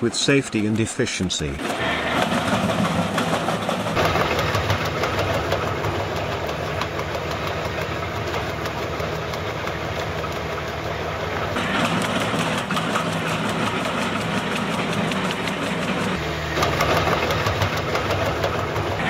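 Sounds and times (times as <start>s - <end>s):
heavy machine engine running: 1.4s - 19.0s.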